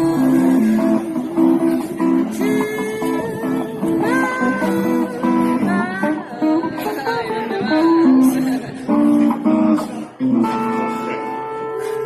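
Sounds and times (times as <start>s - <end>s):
guitar melody with bent notes: 0.0s - 12.0s
strummed guitar chords: 0.0s - 12.0s.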